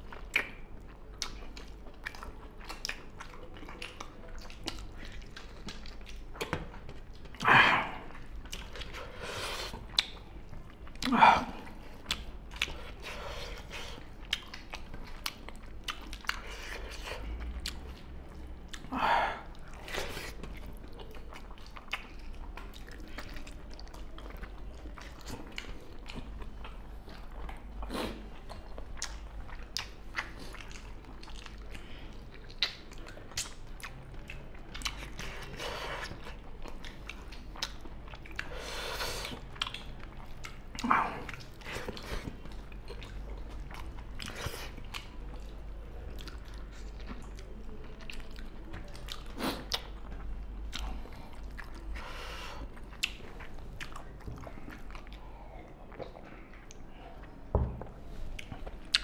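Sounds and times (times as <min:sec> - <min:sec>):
people chewing food: 0:00.0 - 0:59.0.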